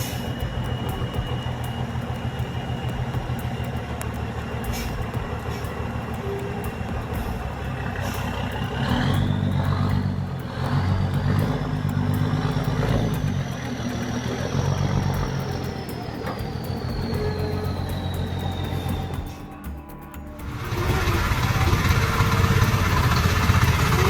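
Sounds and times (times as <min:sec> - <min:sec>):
thin high whistle: 0:00.0 - 0:10.1, 0:14.2 - 0:24.0
truck diesel engine under load: 0:00.0 - 0:19.4, 0:20.4 - 0:24.0.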